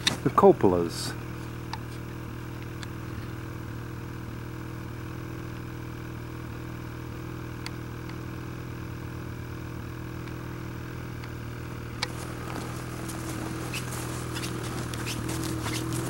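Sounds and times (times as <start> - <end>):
snowmobile engine idling: 0.0 - 16.0.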